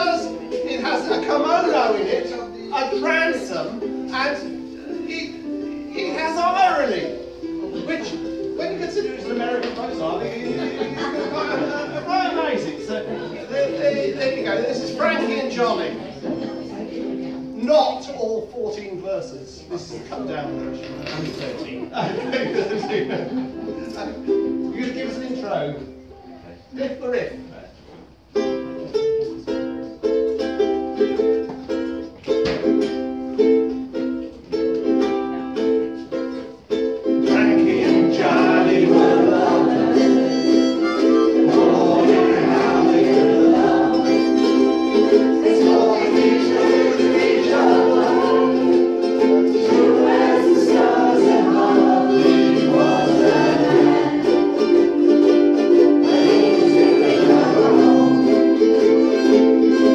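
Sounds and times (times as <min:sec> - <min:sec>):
ukulele strumming chords: 0:00.0 - 0:18.5, 0:20.1 - 0:26.2, 0:28.1 - 0:59.9
ukulele group strumming: 0:00.0 - 0:59.9.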